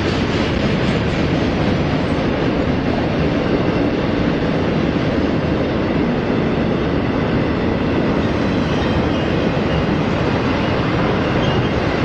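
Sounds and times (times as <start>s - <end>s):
freight train wheels rolling: 0.0s - 12.0s.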